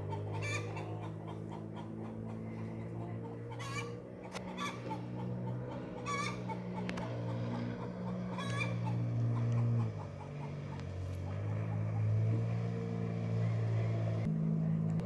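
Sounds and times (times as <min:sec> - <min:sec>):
chickens clucking: 0:00.0 - 0:12.9
jet ski engine drone: 0:00.0 - 0:15.0.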